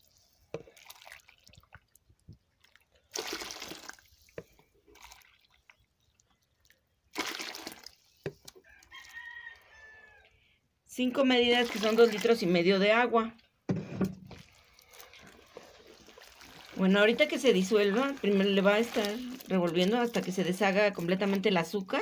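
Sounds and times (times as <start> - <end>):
water pouring and splashing: 0.0 - 8.6, 11.3 - 12.9, 14.0 - 22.0.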